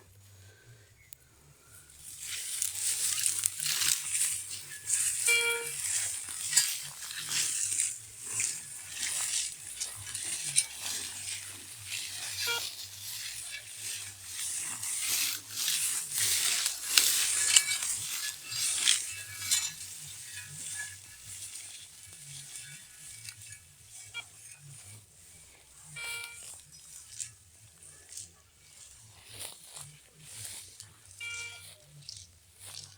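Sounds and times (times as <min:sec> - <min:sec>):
faint low motor hum: 0:00.0 - 0:32.9
string trimmer cutting grass: 0:01.5 - 0:32.9.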